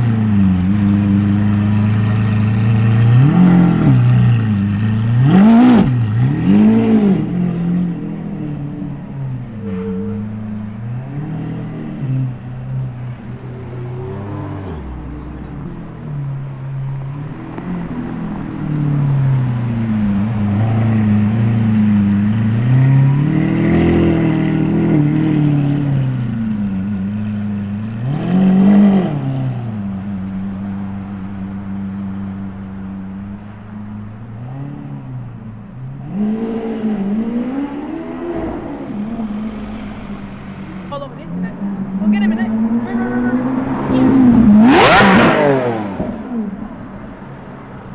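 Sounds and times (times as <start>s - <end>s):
sports car engines revving: 0.0s - 47.9s
street traffic: 0.0s - 47.9s.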